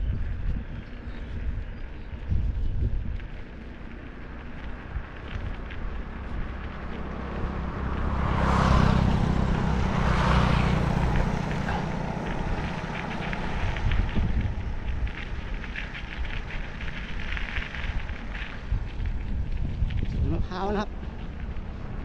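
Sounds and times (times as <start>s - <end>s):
wind noise on microphone: 0.0s - 22.0s
motorcycle passing: 3.9s - 22.0s.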